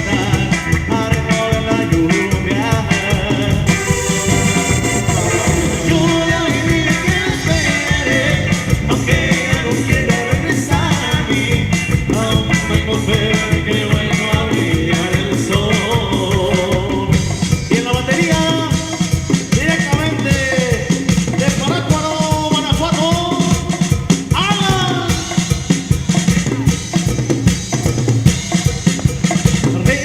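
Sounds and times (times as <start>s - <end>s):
person singing: 0.0s - 25.6s
drum and bass beat: 0.0s - 30.0s.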